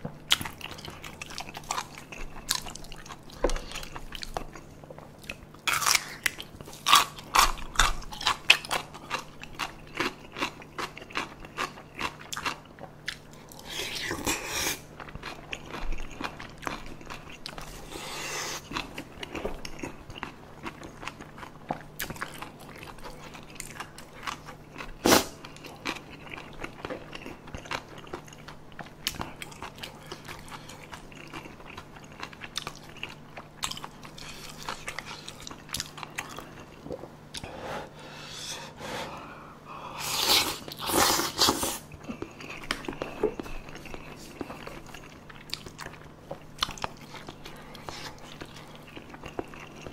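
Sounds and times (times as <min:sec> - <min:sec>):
person chewing: 0:00.3 - 0:37.5, 0:39.8 - 0:49.9.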